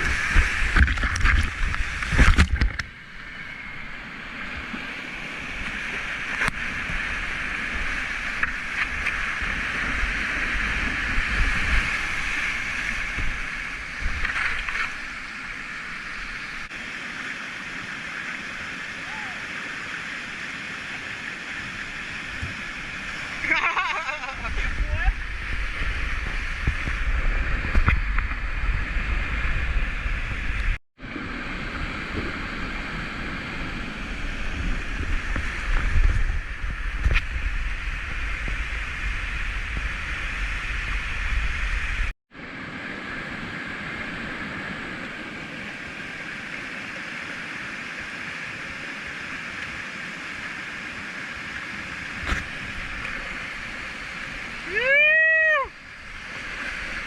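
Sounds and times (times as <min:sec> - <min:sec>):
whitewater rushing over rocks: 0:00.0 - 0:57.0.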